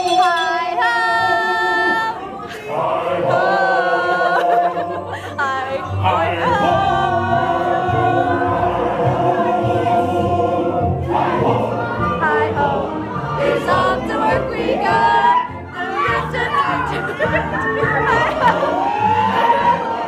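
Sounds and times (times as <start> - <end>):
voices singing in harmony: 0.0 - 20.0.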